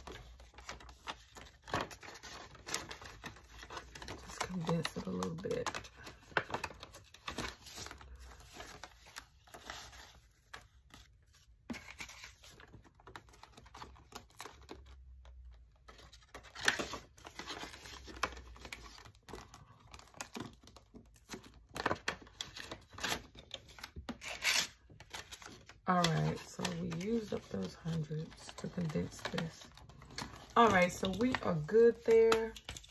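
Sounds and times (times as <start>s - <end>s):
banknotes and plastic rustling: 0.0s - 32.9s.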